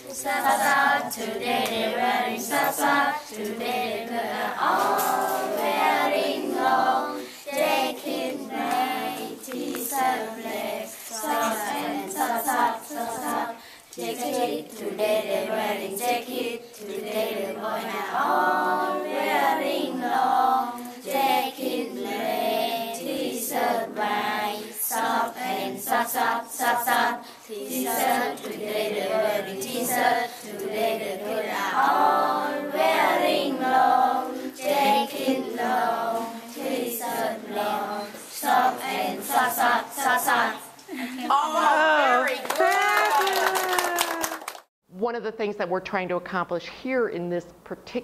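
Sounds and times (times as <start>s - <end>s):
children singing in chorus: 0.0s - 41.0s.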